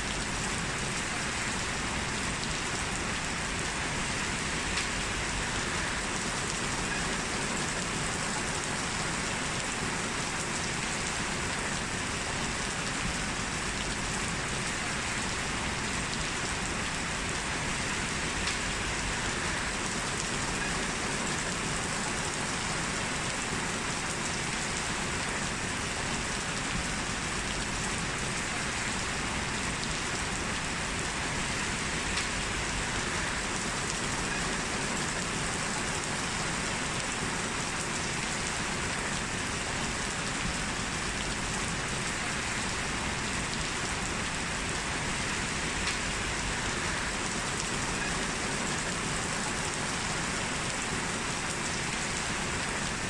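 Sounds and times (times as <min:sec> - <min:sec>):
heavy rain hiss: 0:00.0 - 0:53.0.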